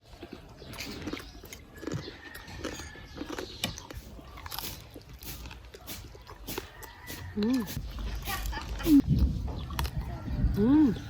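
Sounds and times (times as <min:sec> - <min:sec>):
crunching and chewing crispy food: 0:00.0 - 0:11.0.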